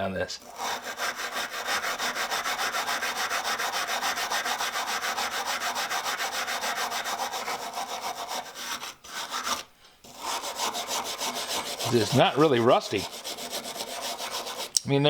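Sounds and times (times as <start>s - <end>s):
brush scrubbing metal wrench: 0.4s - 14.8s.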